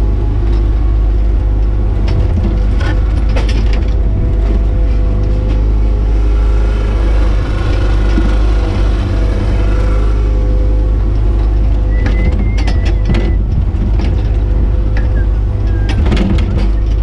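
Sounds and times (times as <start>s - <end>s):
diesel engine rumble: 0.0s - 17.0s
hydraulic whine: 0.0s - 17.0s.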